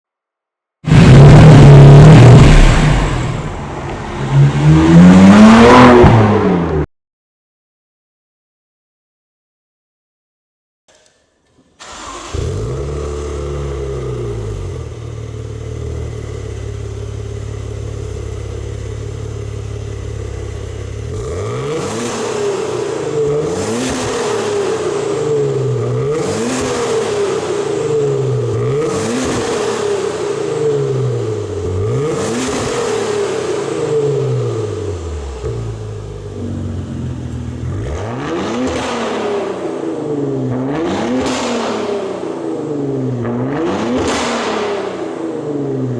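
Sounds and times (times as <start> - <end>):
car engine idling and revving: 0.9 - 6.9, 11.8 - 45.9.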